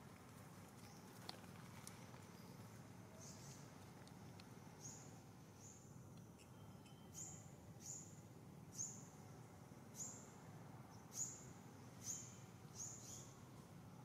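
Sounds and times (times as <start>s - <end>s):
faint forest background: 0.0s - 14.0s.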